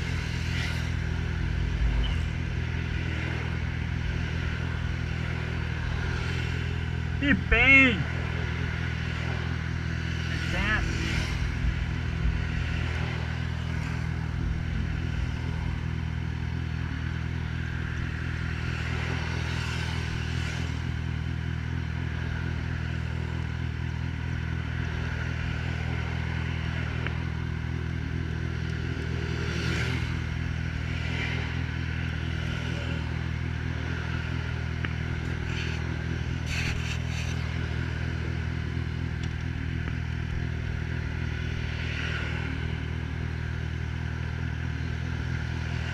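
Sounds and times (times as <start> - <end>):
motorcycle engine running steadily: 0.0 - 45.9.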